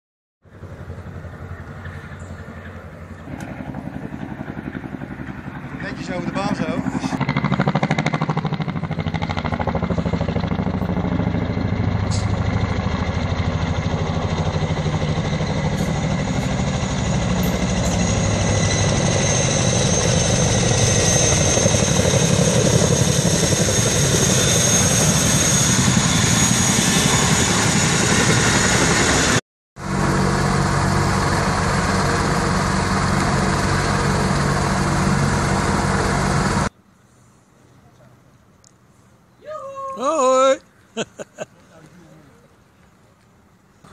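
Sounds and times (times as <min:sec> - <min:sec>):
high turbine whine: 0:00.4 - 0:36.8
helicopter rotor beat: 0:00.5 - 0:36.7.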